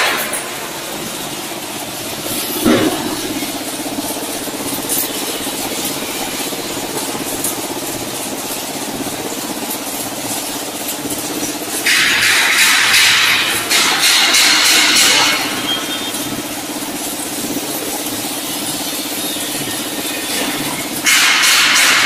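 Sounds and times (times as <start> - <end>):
machine hum with low tone: 0.0 - 22.0.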